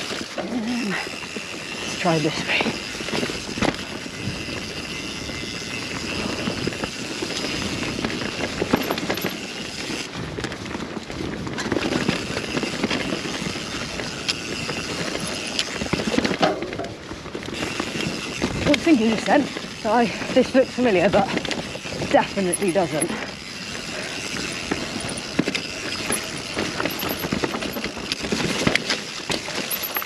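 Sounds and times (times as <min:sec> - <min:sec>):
bike chain and frame rattling: 0:00.0 - 0:30.0
bike tyres on dirt: 0:00.0 - 0:30.0.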